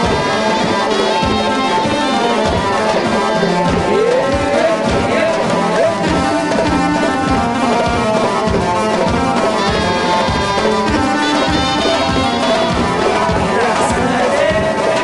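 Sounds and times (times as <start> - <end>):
fast drum beat: 0.0 - 15.0
live band playing dance music: 0.0 - 15.0.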